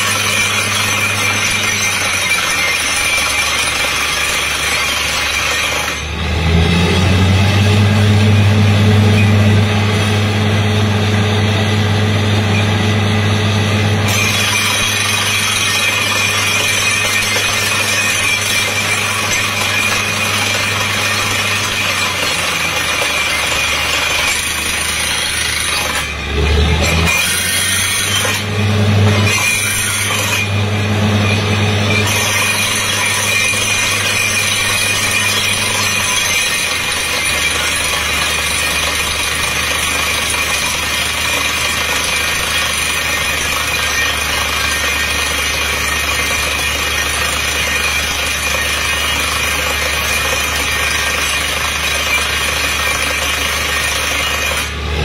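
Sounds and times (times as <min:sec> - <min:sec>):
drilling rig air hammer: 0:00.0 - 0:55.0
engine and compressor running: 0:00.0 - 0:55.0.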